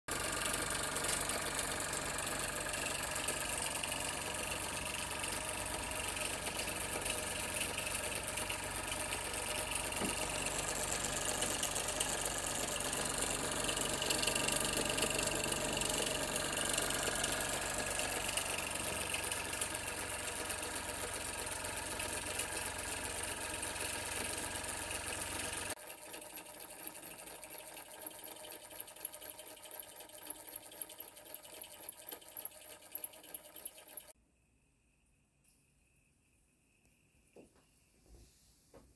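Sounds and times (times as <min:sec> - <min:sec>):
toy saw ticking: 0:00.1 - 0:34.2
toy steam engine clatter: 0:00.1 - 0:34.2.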